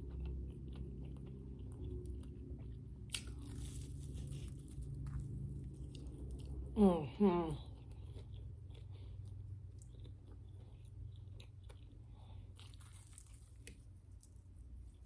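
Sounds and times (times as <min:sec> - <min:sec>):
crunchy chewing: 0:00.0 - 0:06.8, 0:07.6 - 0:15.0
low steady hum: 0:00.0 - 0:15.0.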